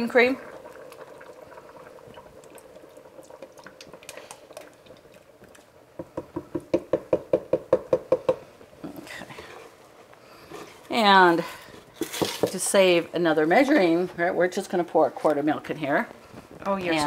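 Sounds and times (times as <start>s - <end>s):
faint bubbling pot: 0.0s - 17.0s.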